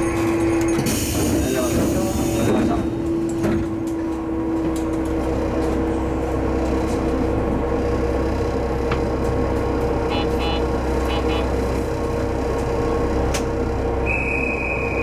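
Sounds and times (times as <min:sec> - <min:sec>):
railcar engine hum and rumble: 0:00.0 - 0:15.0.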